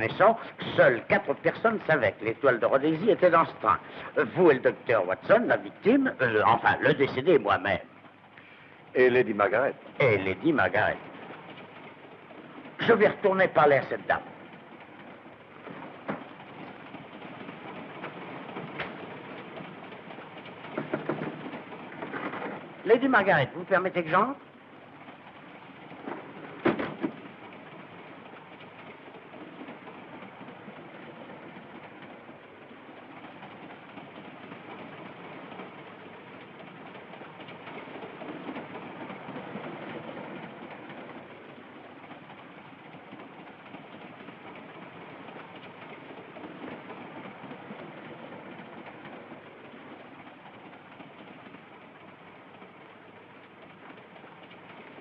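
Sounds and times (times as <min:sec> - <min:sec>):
train carriage rumble and rattle: 0:00.0 - 0:55.0.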